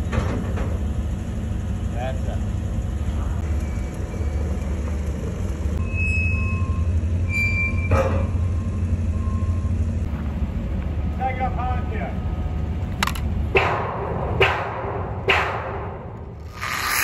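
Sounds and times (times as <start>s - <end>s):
heavy machinery engine rumbling: 0.0s - 14.4s.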